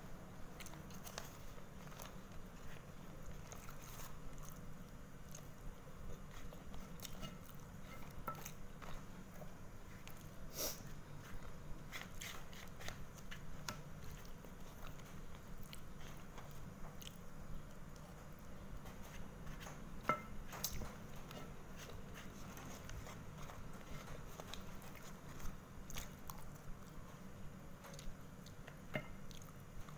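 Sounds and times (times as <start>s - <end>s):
chewing and mouth clicks: 0.6s - 18.3s, 20.5s - 27.1s, 27.8s - 29.9s.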